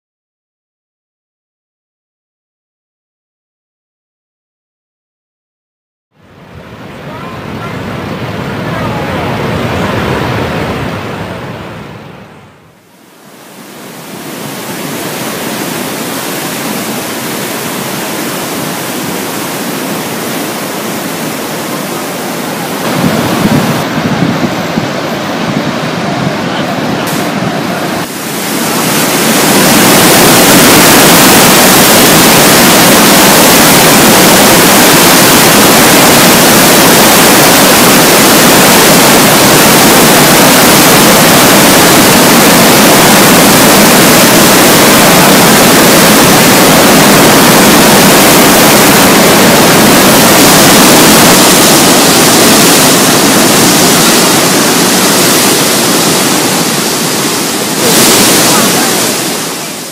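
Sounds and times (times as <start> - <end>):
river rapids rushing: 6.4 - 12.2, 13.0 - 59.9.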